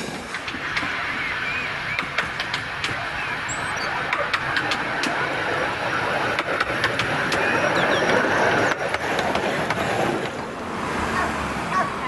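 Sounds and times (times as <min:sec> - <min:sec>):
miniature train rumbling: 0:00.0 - 0:12.0.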